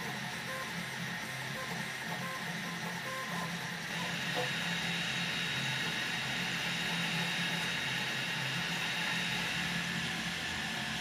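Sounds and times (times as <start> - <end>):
cooling fans hissing: 0.0 - 11.0
stepper motors humming: 0.0 - 11.0.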